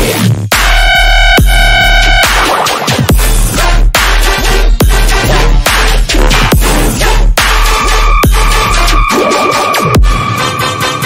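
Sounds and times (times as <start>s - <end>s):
electronic trap music: 0.0s - 11.0s.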